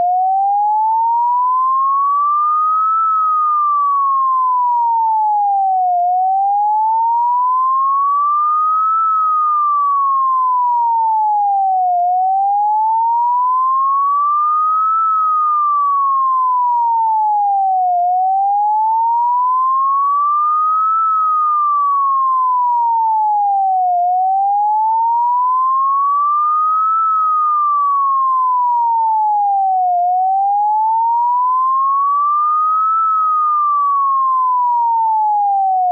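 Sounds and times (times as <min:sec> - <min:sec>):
synthesized siren wail: 0:00.0 - 0:35.9.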